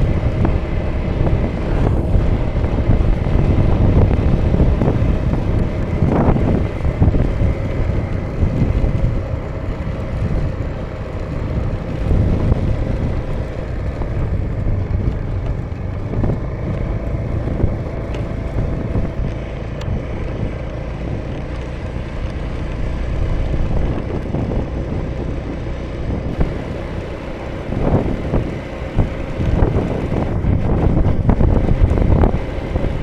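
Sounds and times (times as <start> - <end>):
scooter engine running steadily: 0.0 - 33.0
wind buffeting the microphone: 0.0 - 33.0.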